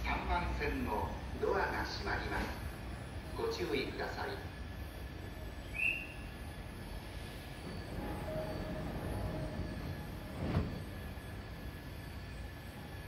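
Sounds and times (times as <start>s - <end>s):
train doors closing: 0.0s - 3.5s, 4.7s - 13.0s.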